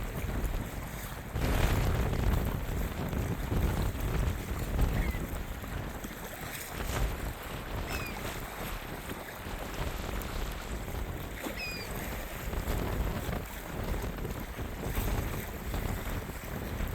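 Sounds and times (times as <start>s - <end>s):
wind rumbling on microphone: 0.0s - 16.9s.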